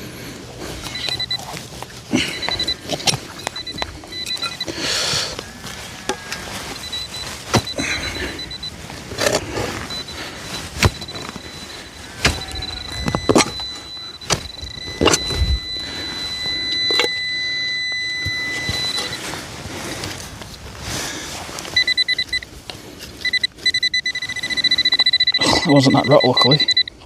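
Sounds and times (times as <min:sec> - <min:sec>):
digging in soil: 0:00.0 - 0:26.6
rapid pulsing beep: 0:00.6 - 0:20.0, 0:21.7 - 0:22.5, 0:23.2 - 0:27.0
metal detector tone: 0:00.6 - 0:20.2, 0:21.6 - 0:27.0.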